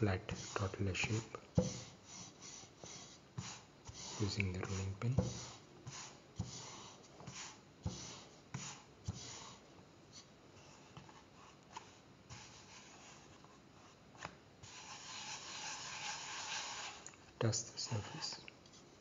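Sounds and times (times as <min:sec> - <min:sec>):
rolling pin rolling dough: 0:00.0 - 0:18.4
hand rubbing dough: 0:00.0 - 0:19.0.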